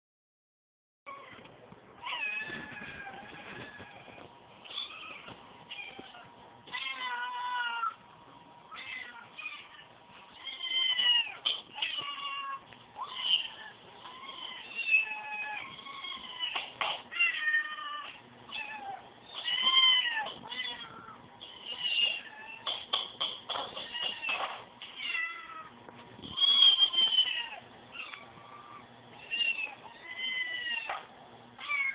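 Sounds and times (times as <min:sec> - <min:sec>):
cat meowing: 0:02.0 - 0:08.0, 0:08.7 - 0:22.8, 0:23.6 - 0:31.0, 0:31.6 - 0:31.9.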